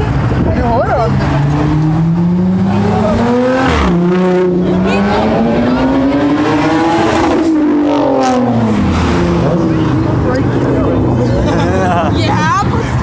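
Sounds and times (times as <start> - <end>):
car engine revving hard: 0.7 - 11.3.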